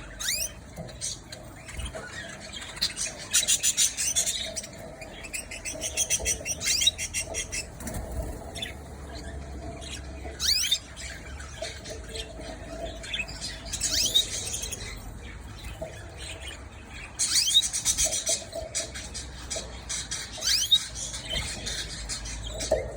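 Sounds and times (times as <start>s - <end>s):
canaries squeaky calls: 0.0s - 22.9s.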